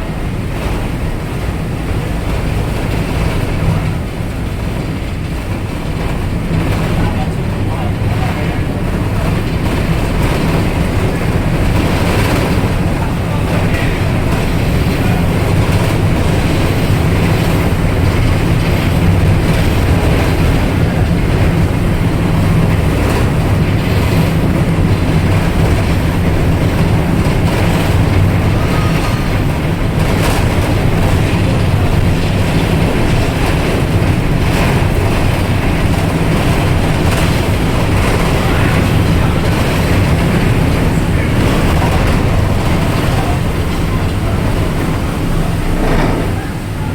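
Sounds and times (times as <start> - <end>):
ferry engines droning: 0.0 - 46.9.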